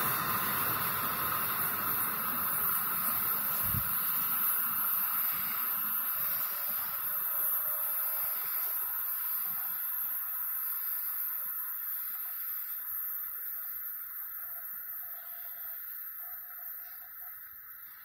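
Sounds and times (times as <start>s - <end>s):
distant train on rails: 0.0s - 18.0s.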